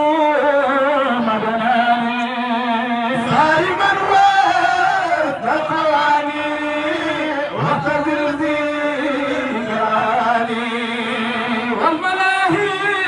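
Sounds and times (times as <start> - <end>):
men chanting: 0.0 - 13.0.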